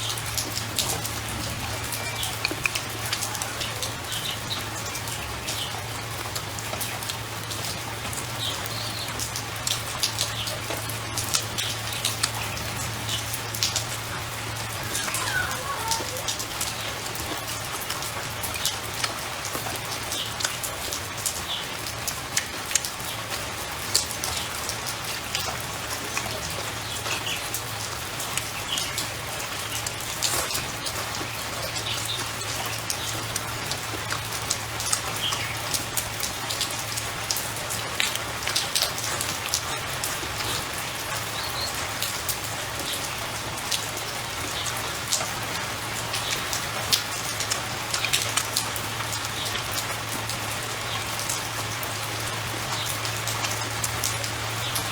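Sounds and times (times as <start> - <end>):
raindrops ticking: 0.0 - 54.9
steady rain hiss: 0.0 - 54.9.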